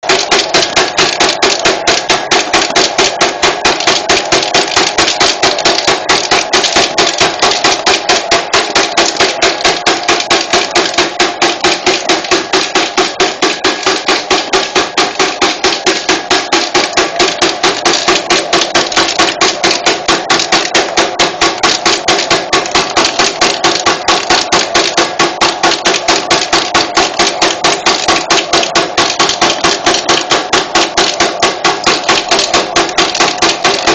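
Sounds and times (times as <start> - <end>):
machine metallic clacks: 0.0 - 33.9
steady motor hum: 0.0 - 33.9.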